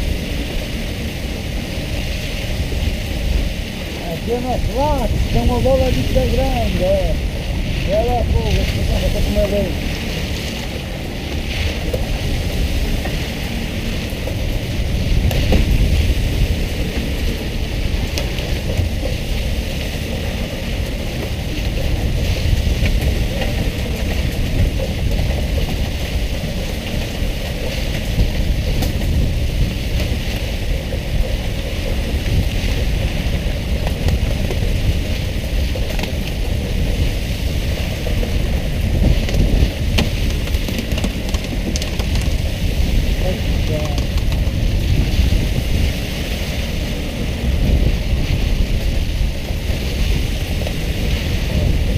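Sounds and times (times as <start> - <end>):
low boat rumble: 0.0 - 51.9
wind buffeting microphone: 0.0 - 51.9.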